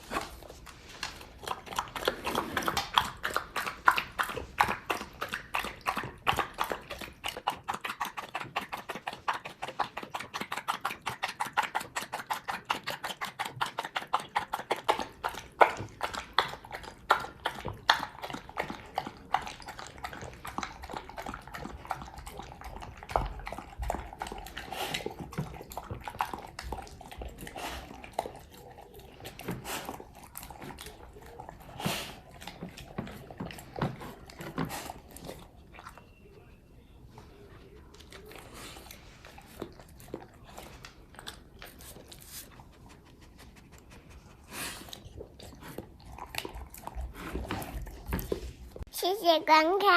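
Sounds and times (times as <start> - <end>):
dog eating from bowl: 0.0 - 49.8.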